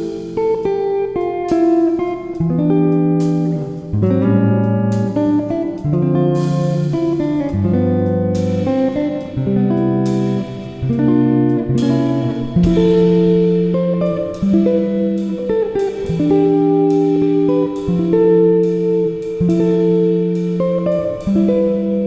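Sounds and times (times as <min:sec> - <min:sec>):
plucked guitar chords: 0:00.0 - 0:22.0.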